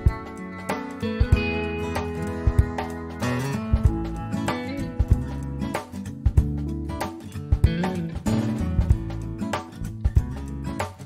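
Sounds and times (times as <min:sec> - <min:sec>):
bass line: 0:00.0 - 0:10.7
drum beat: 0:00.0 - 0:11.0
guitar: 0:00.0 - 0:11.0.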